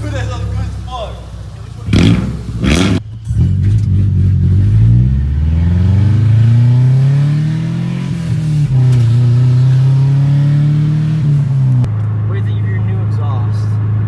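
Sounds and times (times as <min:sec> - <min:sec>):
loud car engine revving: 0:00.0 - 0:14.0.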